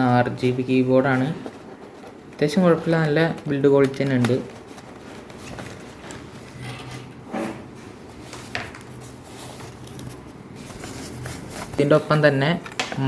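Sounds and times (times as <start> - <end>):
keyboard and packaging rustling: 0.0 - 13.0.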